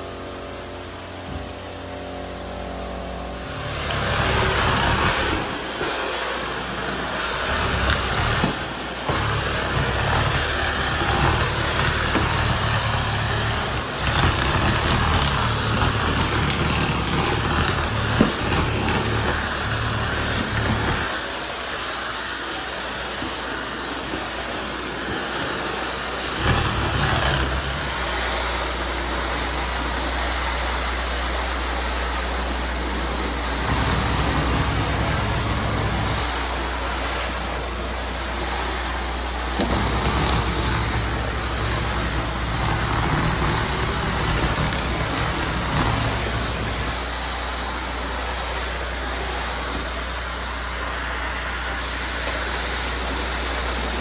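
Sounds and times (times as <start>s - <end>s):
cleaning machine hissing: 0.0s - 54.0s.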